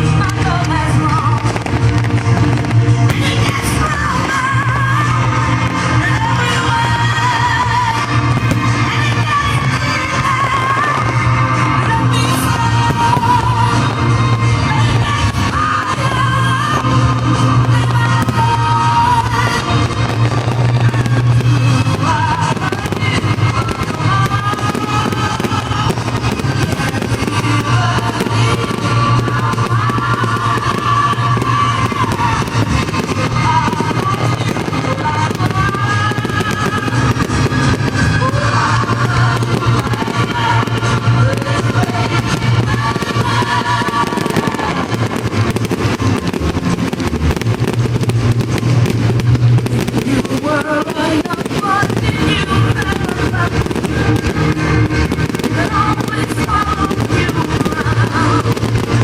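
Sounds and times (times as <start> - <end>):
fireworks banging and crackling: 0.0 - 59.0
song with singing: 0.0 - 59.0.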